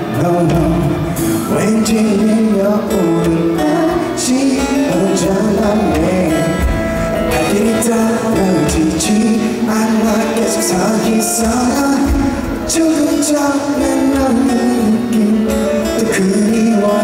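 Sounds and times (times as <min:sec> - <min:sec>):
live pop music in an arena: 0:00.0 - 0:17.0.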